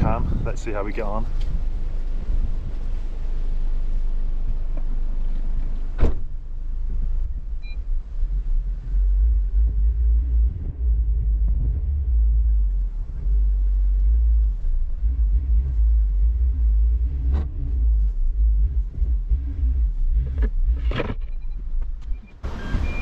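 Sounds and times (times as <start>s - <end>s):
car engine low rumble: 0.0s - 23.0s.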